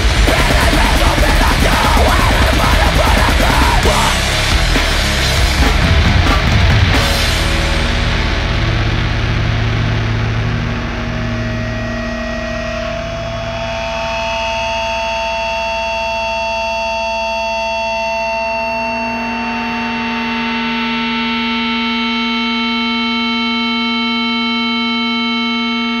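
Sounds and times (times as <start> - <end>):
distorted noise drone: 0.0 - 26.0.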